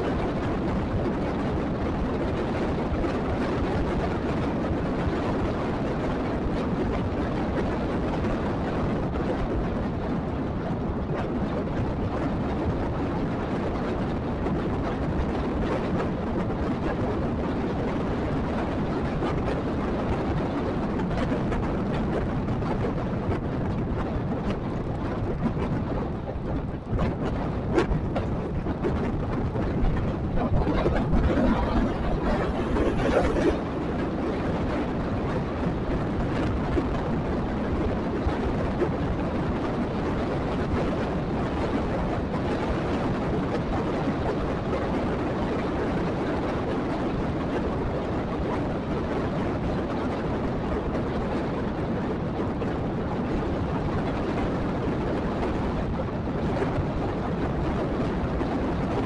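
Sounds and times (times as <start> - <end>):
wind and road rumble: 0.0 - 59.0.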